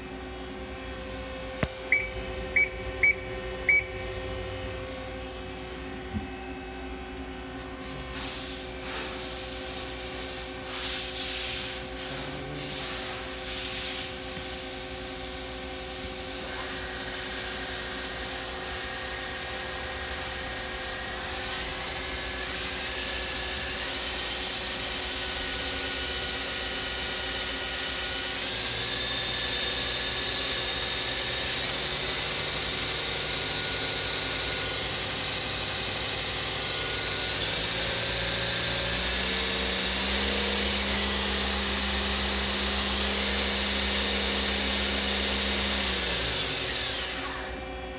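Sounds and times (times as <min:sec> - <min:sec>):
lathe running with whines: 0:00.0 - 0:47.9.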